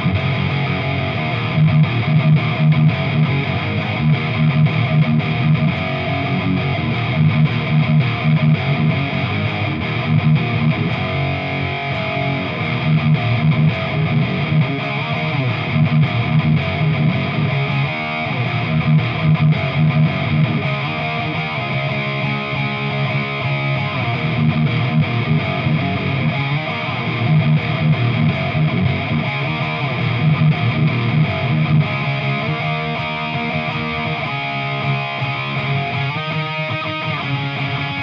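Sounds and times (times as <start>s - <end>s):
electric guitar strumming chords: 0.0s - 38.0s.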